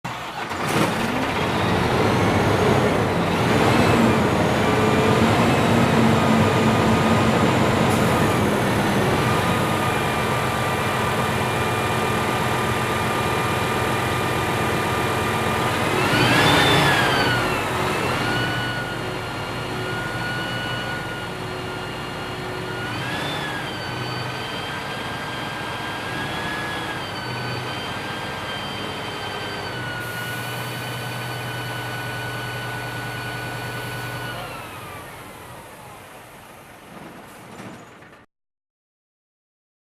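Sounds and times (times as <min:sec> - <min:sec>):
fire engine engine revving: 0:00.0 - 0:38.0.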